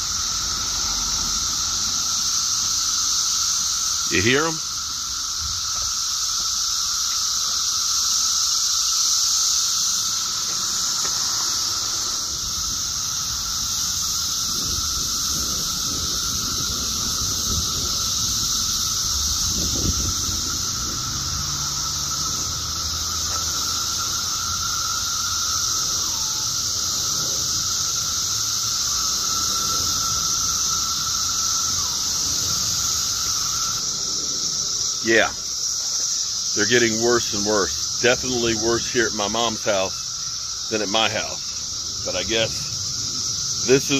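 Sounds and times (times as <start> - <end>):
cicadas droning: 0.0 - 43.9
thin steady whine: 0.0 - 43.9.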